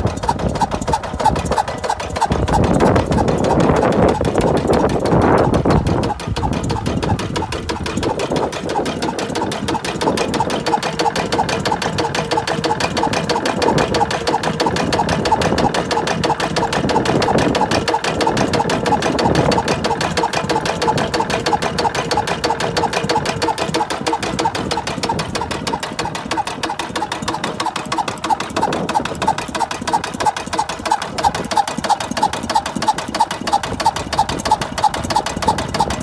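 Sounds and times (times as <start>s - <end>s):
diesel engine knocking: 0.0s - 36.0s.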